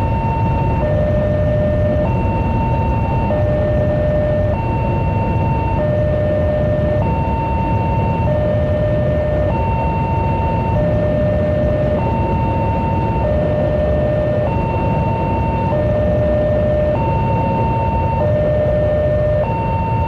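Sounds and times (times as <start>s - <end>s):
two-tone warning alarm: 0.0s - 20.0s.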